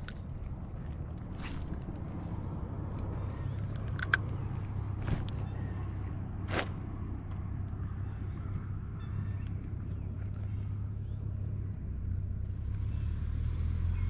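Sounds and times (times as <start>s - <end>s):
steady low rumble: 0.0s - 13.8s.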